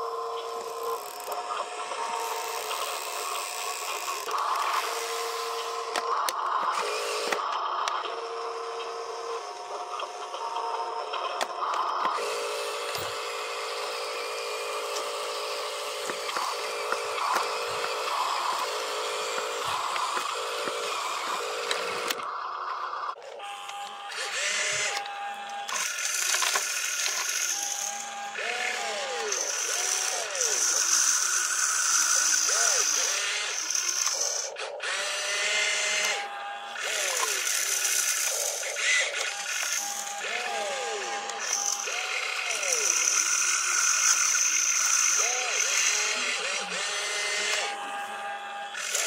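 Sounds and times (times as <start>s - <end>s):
toy excavator motors whining: 0.0s - 49.0s
toy truck motor whine: 0.0s - 49.0s.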